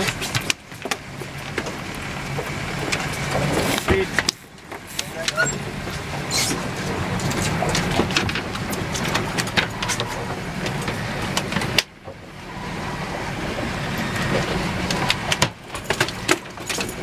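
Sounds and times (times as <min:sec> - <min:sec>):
sharp clicks and knocks: 0:00.0 - 0:12.2, 0:13.6 - 0:17.0
boat engine droning: 0:00.0 - 0:17.0.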